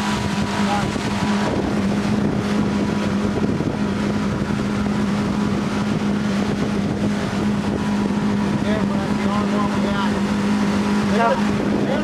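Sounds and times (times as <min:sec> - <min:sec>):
motorboat engine humming: 0:00.0 - 0:12.0
water rushing past hull: 0:00.0 - 0:12.0
wind on microphone: 0:00.0 - 0:12.0.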